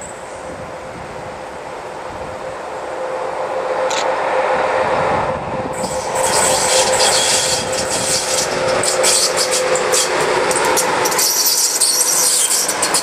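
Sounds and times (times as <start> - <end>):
electric locomotive whine: 0.0 - 13.0
wheel and rail noise: 0.0 - 13.0.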